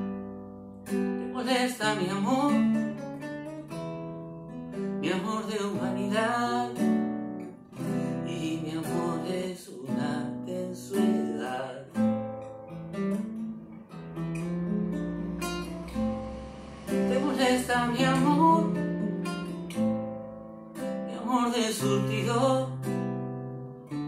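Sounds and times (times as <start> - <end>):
classical guitar playing: 0.0 - 24.0.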